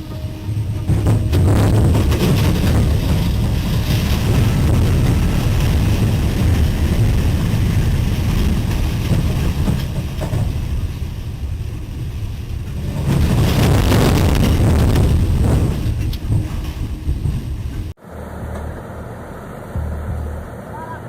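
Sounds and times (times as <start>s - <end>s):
low rumble of tornado: 0.0s - 21.0s
storm wind: 0.0s - 21.0s.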